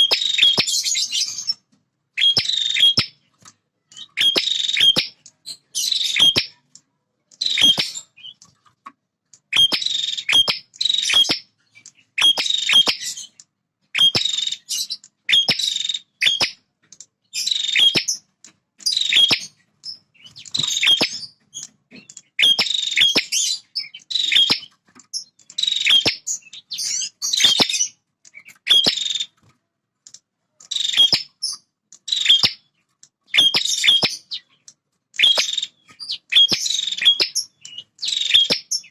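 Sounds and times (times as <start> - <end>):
bird chattering song: 0.0 - 29.4, 30.6 - 38.9.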